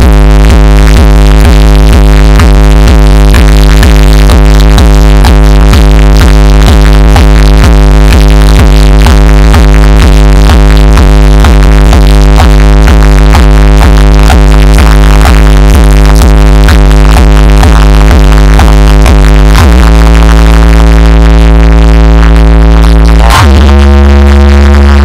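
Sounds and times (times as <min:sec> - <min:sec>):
electronic dance music over loudspeakers: 0:00.0 - 0:25.0.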